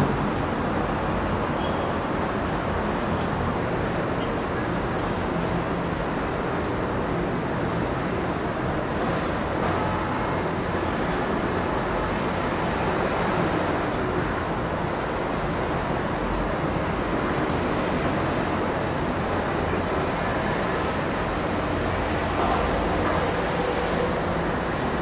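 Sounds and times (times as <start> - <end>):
city ambience rumble and hiss: 0.0 - 25.0.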